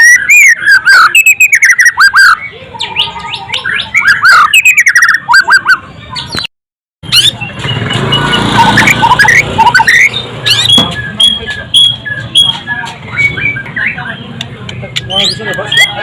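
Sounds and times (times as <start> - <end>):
background noise: 0.0 - 16.0
bird whistled song: 0.0 - 16.0.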